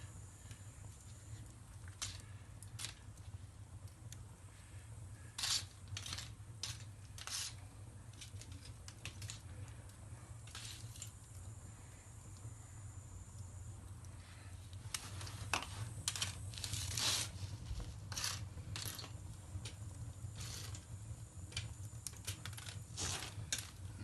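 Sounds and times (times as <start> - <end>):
low steady hum: 0.0 - 24.0
wood fire crackling: 0.0 - 24.0.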